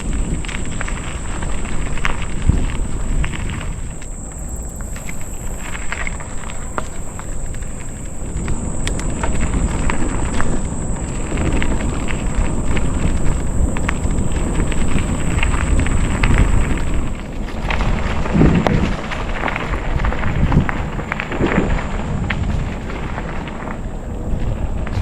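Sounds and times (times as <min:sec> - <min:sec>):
bike tyre noise: 0:00.0 - 0:25.0
wind buffeting microphone: 0:00.0 - 0:25.0.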